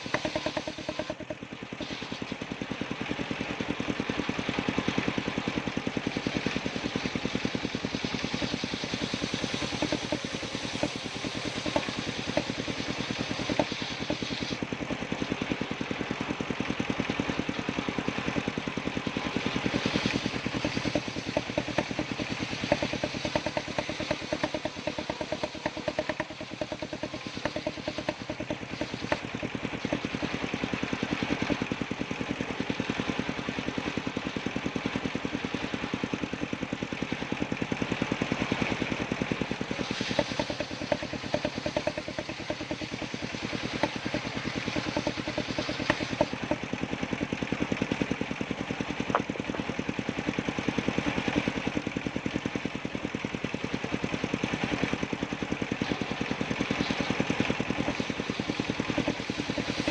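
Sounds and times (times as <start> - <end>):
engine driving circular saw: 0.0 - 59.9.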